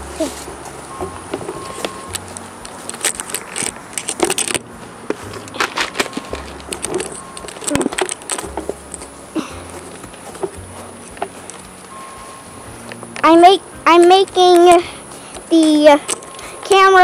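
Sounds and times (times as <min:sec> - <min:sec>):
footsteps on wood-chip mulch: 0:00.0 - 0:17.0
rustling handling noises: 0:00.0 - 0:17.0.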